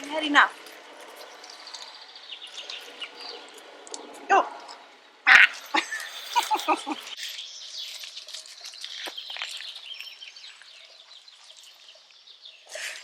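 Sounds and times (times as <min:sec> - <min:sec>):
birds chirping: 0:00.0 - 0:13.0
pattering: 0:00.0 - 0:13.0.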